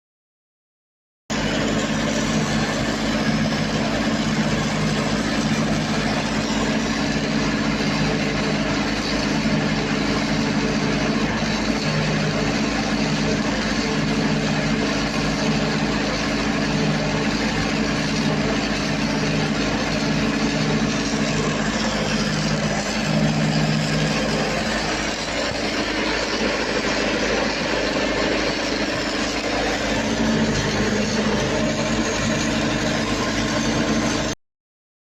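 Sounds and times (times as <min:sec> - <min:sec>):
diesel generator running: 0:01.3 - 0:34.4.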